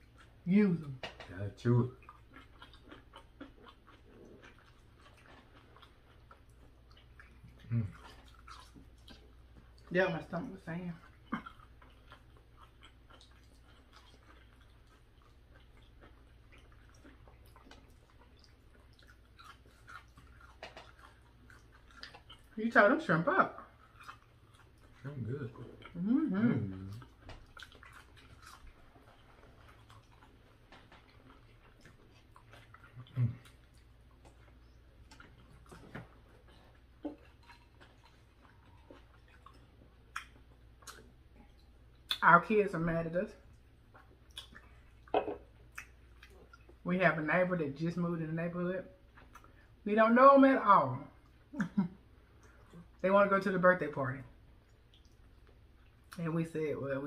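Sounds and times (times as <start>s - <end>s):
people chewing food: 0.0s - 49.8s, 50.5s - 53.6s, 54.3s - 56.4s.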